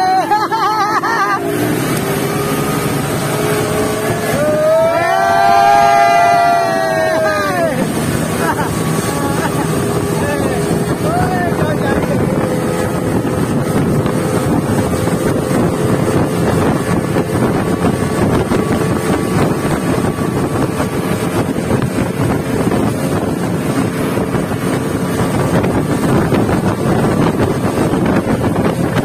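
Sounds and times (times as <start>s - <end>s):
motorboat engine droning: 0.0s - 29.0s
rushing water: 0.0s - 29.0s
wind on microphone: 1.4s - 29.0s.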